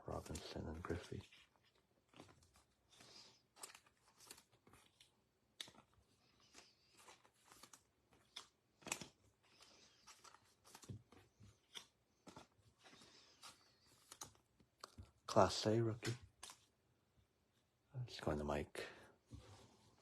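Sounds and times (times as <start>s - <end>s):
trading cards clicking and rustling: 0.1s - 16.7s.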